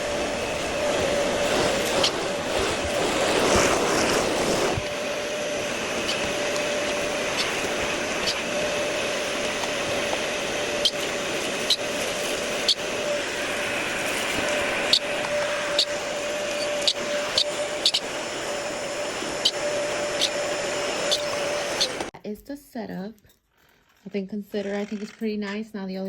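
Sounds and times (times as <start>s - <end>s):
mechanical hum: 0.0s - 26.0s.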